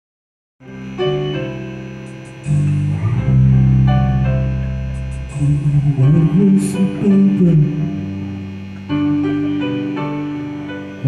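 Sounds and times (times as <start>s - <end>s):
held guitar and bass chords: 0.6s - 11.0s.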